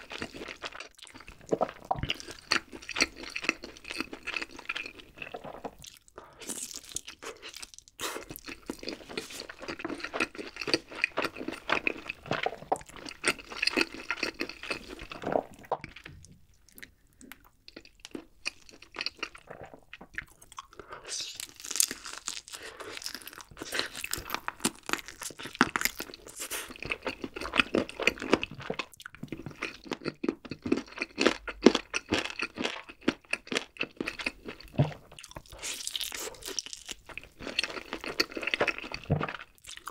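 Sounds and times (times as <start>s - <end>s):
biting and chewing chicken: 0.0s - 16.2s, 16.8s - 39.9s.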